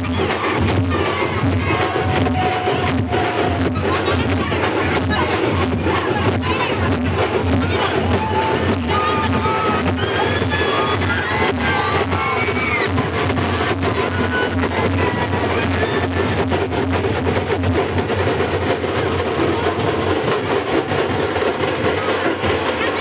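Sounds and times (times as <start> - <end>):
loud music with driving drum beat: 0.0 - 23.0.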